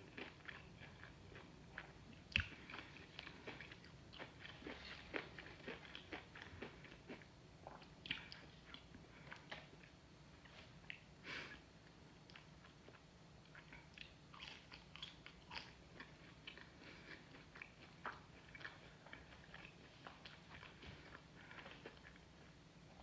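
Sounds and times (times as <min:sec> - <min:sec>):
person chewing crunchy food: 0:00.0 - 0:10.0, 0:12.3 - 0:23.0.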